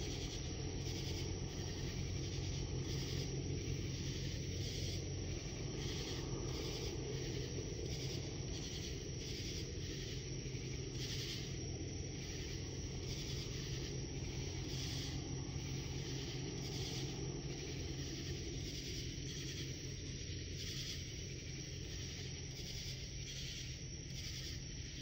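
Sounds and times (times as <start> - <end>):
distant helicopter drone: 0.0 - 25.0
insects chirping: 0.0 - 25.0.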